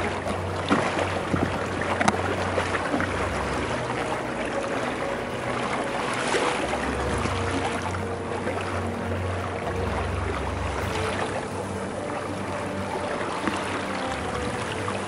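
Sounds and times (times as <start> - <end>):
water rushing along a boat hull: 0.0 - 15.0
wind rumbling on microphone: 0.0 - 15.0.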